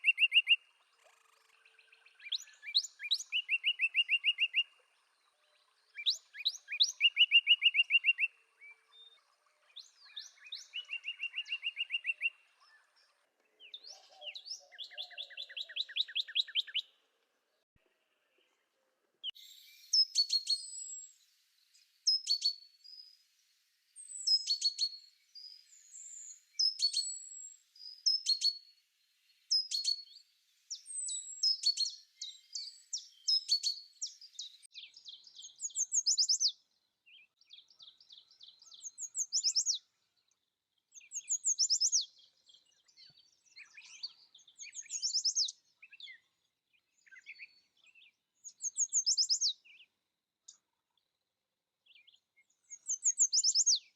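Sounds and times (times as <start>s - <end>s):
small birds singing: 0.0s - 53.9s.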